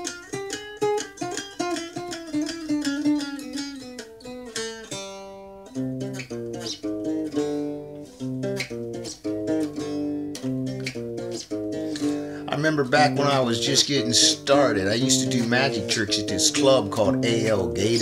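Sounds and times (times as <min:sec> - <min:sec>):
three-string guitar playing: 0:00.0 - 0:18.0.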